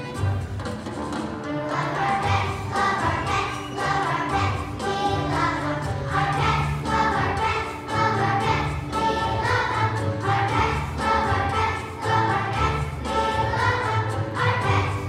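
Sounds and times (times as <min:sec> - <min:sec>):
children's choir singing: 0:00.0 - 0:15.0
instrumental accompaniment with bass: 0:00.0 - 0:15.0.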